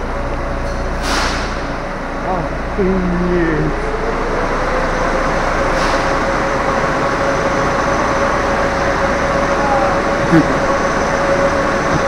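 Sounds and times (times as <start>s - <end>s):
station rumble: 0.0s - 12.0s
train equipment humming: 0.0s - 12.0s.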